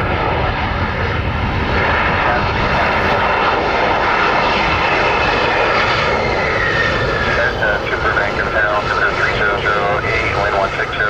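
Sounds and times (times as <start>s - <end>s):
airliner engines roaring: 0.0s - 11.0s.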